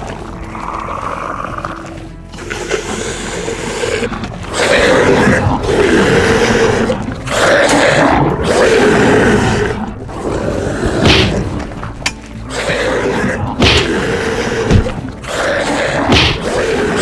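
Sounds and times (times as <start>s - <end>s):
music: 0.0s - 17.0s
monster roars: 2.4s - 11.6s, 12.4s - 17.0s.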